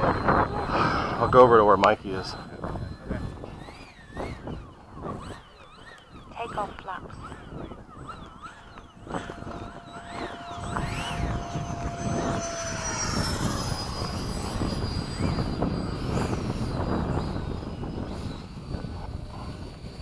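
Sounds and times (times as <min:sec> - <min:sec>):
electric ducted fan whining: 0:00.0 - 0:20.0
wind rumble on microphone: 0:00.0 - 0:20.0.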